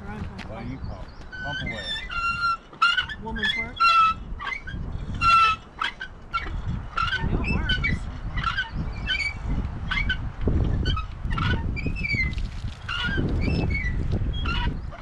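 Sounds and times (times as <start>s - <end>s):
hand water pump squeaking: 1.2s - 15.0s.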